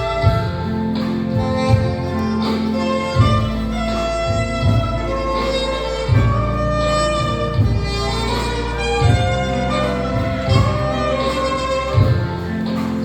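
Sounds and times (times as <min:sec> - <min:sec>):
instrumental music with low beat: 0:00.0 - 0:13.0.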